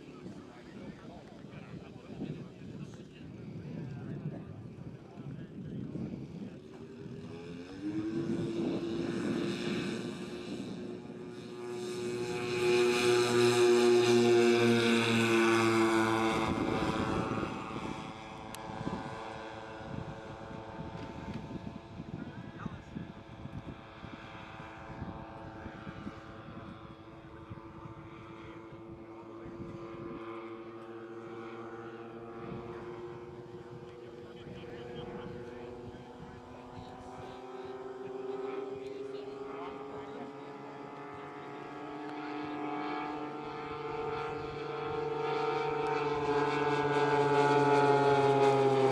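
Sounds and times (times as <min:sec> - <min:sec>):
model airplane engines droning: 0:00.0 - 0:48.9.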